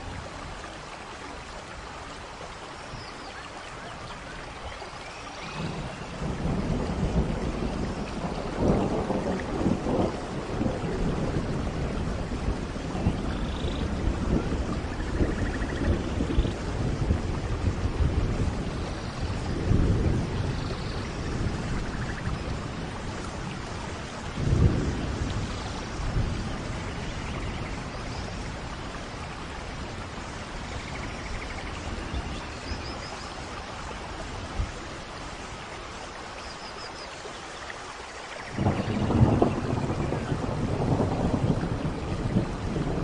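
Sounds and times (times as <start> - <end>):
steady rainfall: 0.0 - 43.0
low rolls of thunder: 5.4 - 35.6, 38.4 - 43.0.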